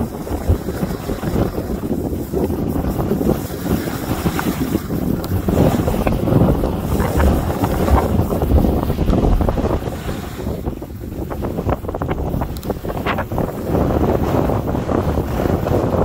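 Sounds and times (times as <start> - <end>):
wind rumbling on microphone: 0.0 - 16.0
skis scraping packed snow: 0.2 - 16.0.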